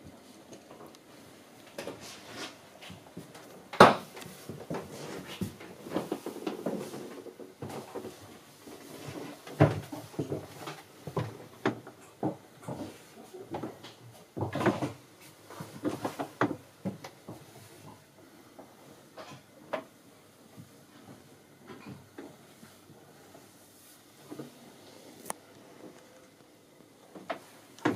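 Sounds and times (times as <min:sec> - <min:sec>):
knocks and clunks in wooden cabin: 0:00.0 - 0:22.5, 0:25.7 - 0:27.9.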